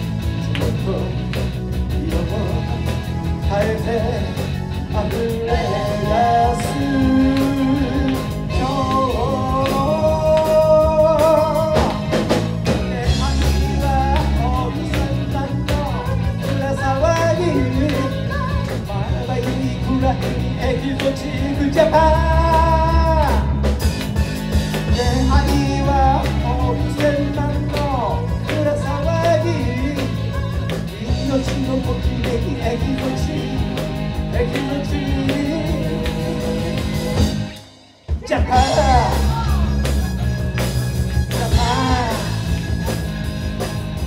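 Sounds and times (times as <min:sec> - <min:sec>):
person singing lead vocal: 0:00.0 - 0:23.9, 0:24.7 - 0:40.3, 0:41.1 - 0:43.3
live pop-rock band: 0:00.0 - 0:44.0.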